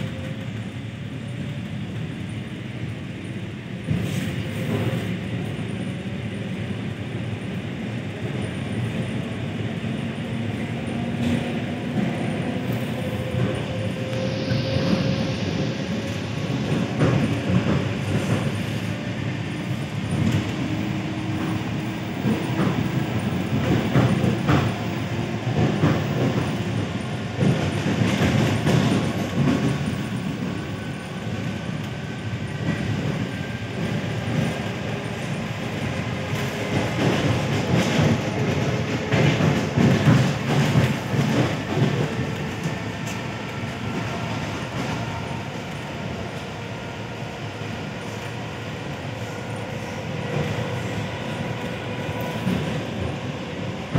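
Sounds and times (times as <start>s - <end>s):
train wheels rumbling on track: 0.0s - 53.9s.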